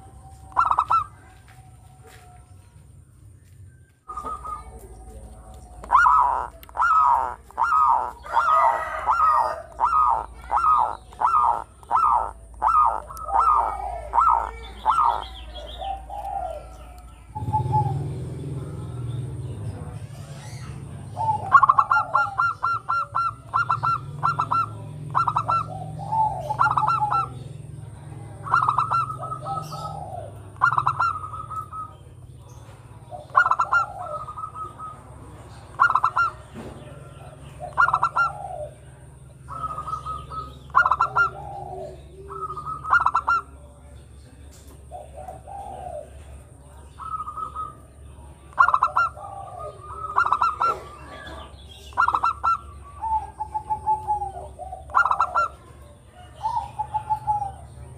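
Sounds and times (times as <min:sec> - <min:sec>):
dove cooing: 0:00.0 - 0:02.6, 0:04.1 - 0:57.9.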